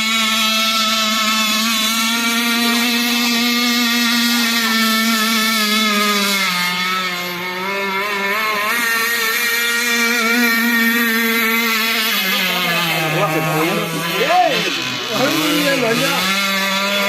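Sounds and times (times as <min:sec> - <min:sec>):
boat motor whining: 0:00.0 - 0:17.0.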